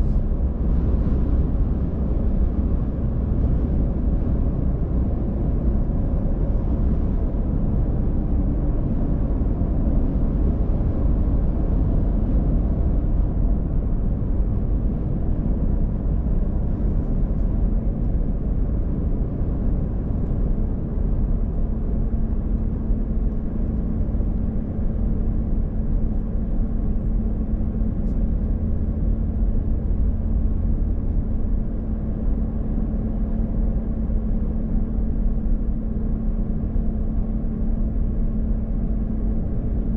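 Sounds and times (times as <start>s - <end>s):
car road and engine rumble: 0.0s - 39.9s
steady low hum: 0.0s - 39.9s.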